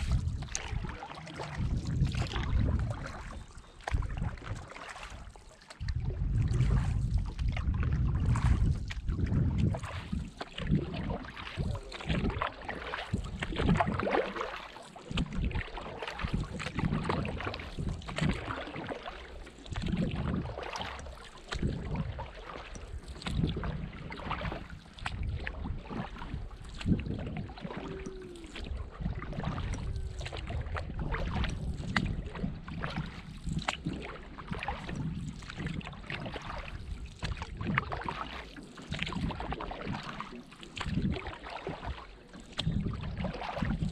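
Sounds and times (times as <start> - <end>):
wind on microphone: 0.0 - 38.3, 38.9 - 43.9
paddle strokes in water: 0.0 - 43.9
water slapping against hull: 0.0 - 43.9.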